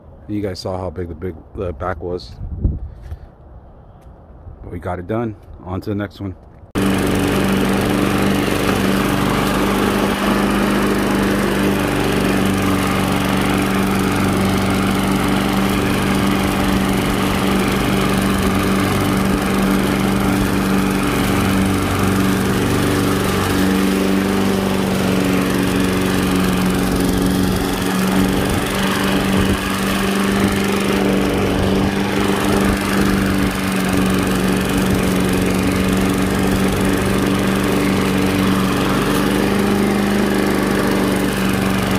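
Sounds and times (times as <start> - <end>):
push mower cutting grass: 6.8 - 41.9.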